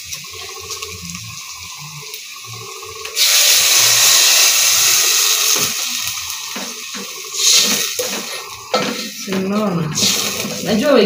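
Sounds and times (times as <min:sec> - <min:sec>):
water pouring into a pot: 0:00.0 - 0:11.0.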